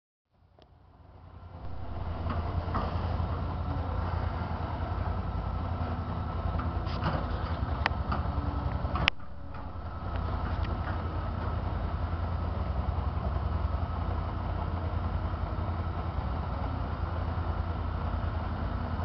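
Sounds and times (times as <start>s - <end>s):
diesel engine throbbing: 0.9s - 19.0s.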